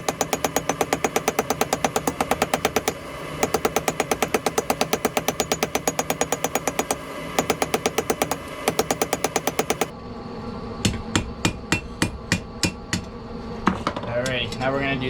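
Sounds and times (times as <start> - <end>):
hammer striking steel: 0.0 - 9.9, 10.8 - 13.1.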